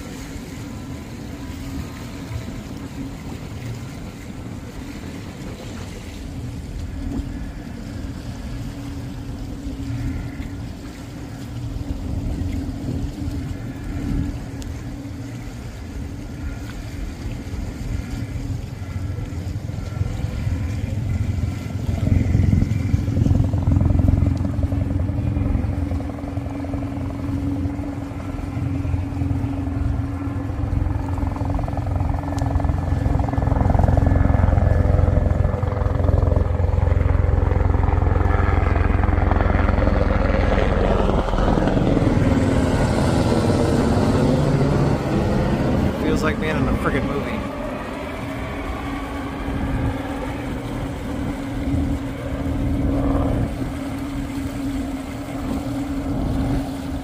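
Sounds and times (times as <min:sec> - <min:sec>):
helicopter flying low overhead: 0:00.0 - 0:57.0.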